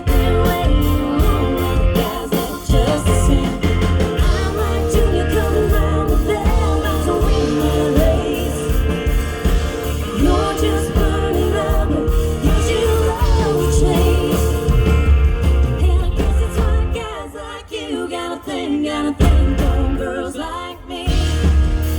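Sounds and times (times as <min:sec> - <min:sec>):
live band music: 0:00.0 - 0:17.1, 0:19.2 - 0:21.9
woman singing: 0:00.0 - 0:21.7.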